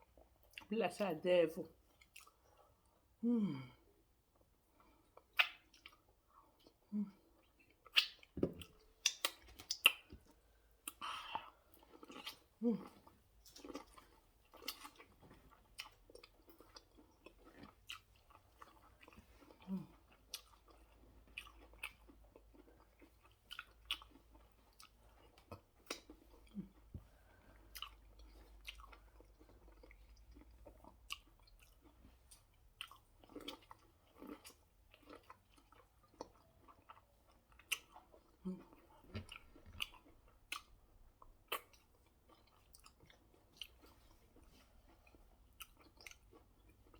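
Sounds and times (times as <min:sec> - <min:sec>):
person chewing food: 0:00.0 - 0:00.7, 0:01.8 - 0:46.9.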